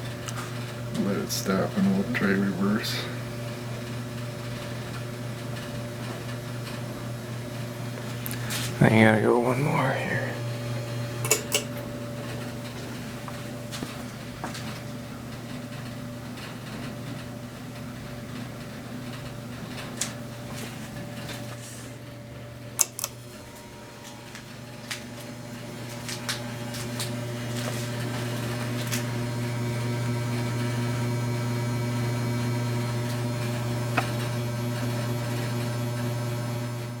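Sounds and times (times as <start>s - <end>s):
ceiling fan motor humming: 0.0s - 37.0s.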